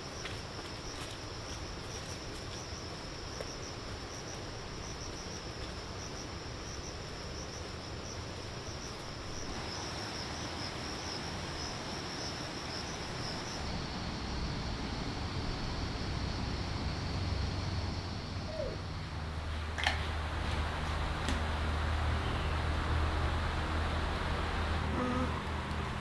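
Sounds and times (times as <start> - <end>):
crickets trilling: 0.0 - 26.0.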